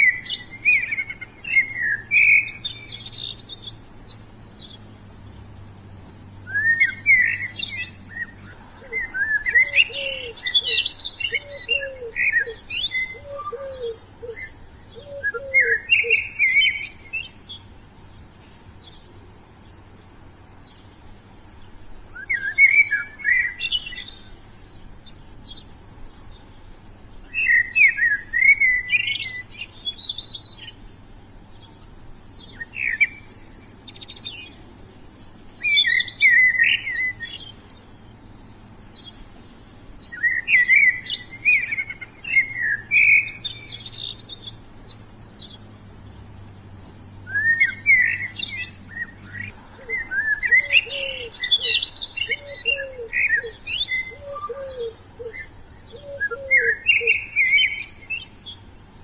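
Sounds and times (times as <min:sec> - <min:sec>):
songbird twittering chirps: 0:00.0 - 0:59.0
steady high hiss: 0:00.0 - 0:59.0.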